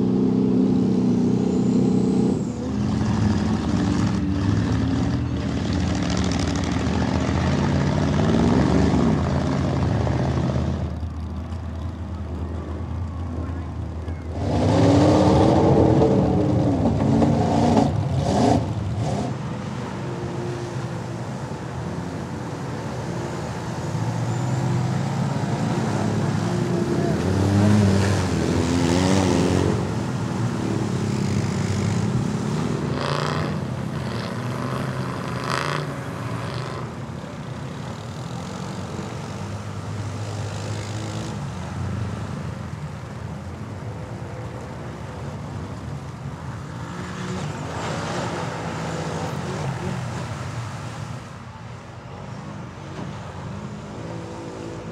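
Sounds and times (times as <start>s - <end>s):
off-road vehicle engines revving: 0.0s - 54.9s.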